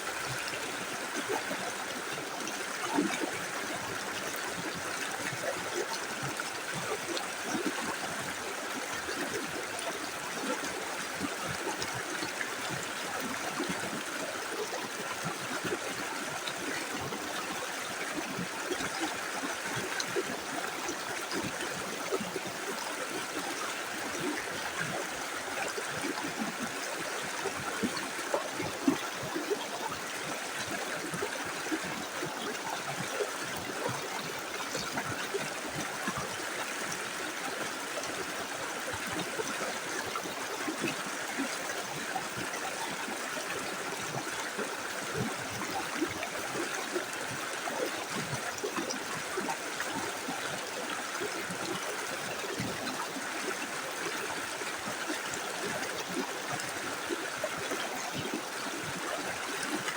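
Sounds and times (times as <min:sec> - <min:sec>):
river running over stones: 0:00.0 - 0:59.9.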